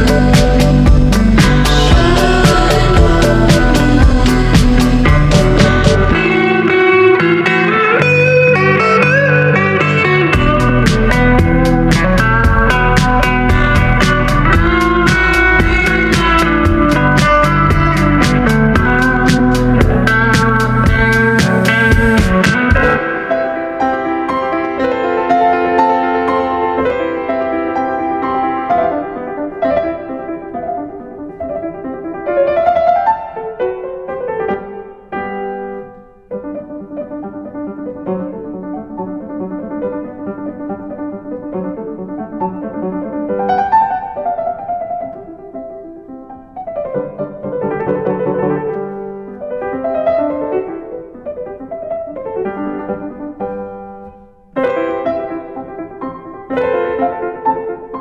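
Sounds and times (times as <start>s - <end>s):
solo piano: 0.0s - 58.0s.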